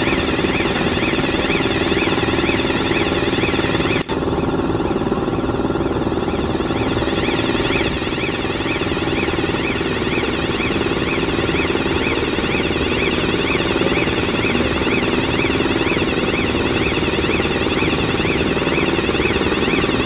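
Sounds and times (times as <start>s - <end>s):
machine power unit pulsing: 0.0s - 20.0s
warbling warning siren: 0.0s - 20.0s.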